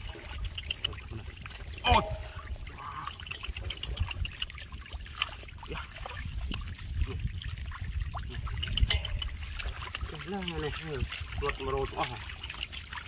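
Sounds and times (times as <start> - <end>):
hands splashing in muddy water: 0.0 - 13.0
water dripping: 0.0 - 13.0.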